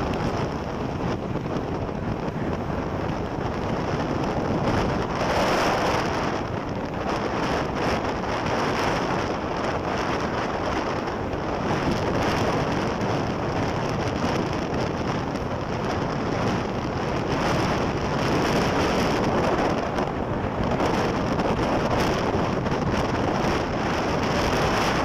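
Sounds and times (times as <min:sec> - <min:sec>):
tyre and traffic noise: 0:00.0 - 0:25.0
wind noise on microphone: 0:00.0 - 0:25.0.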